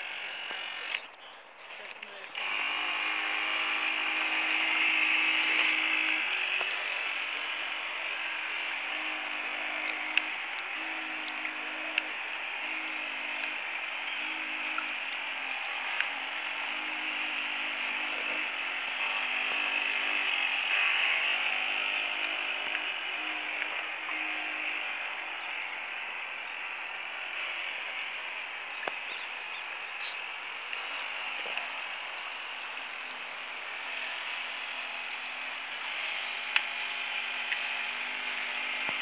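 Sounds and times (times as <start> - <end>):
toy boat motor whirring: 0.0 - 1.1, 2.0 - 39.0.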